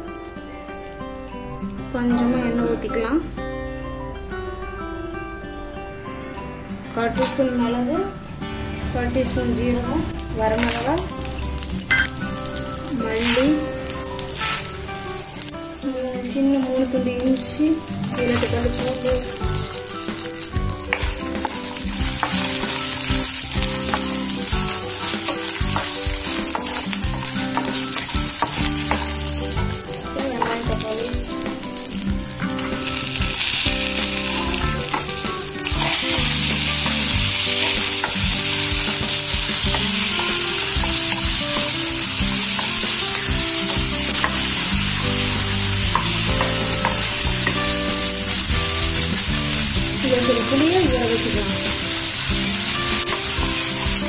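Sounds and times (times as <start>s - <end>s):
food sizzling in oil: 9.3s - 54.0s.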